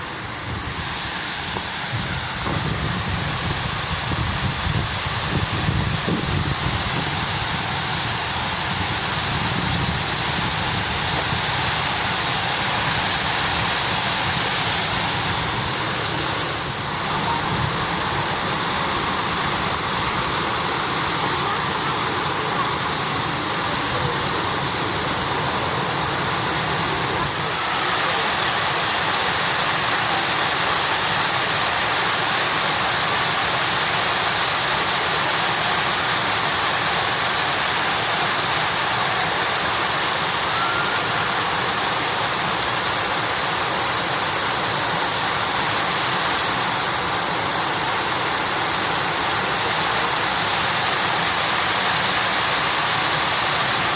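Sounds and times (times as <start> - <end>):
waterfall rushing and splashing: 0.0 - 53.9.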